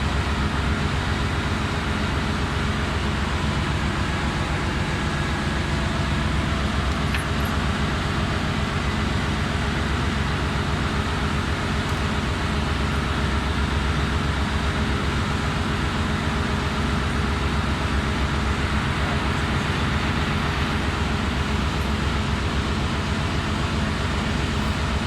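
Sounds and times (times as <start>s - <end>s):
engine-room machinery drone: 0.0s - 25.0s.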